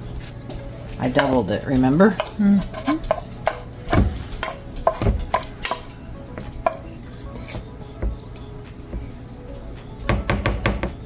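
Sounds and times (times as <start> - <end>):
spoon scraping a bowl: 0.1 - 9.3.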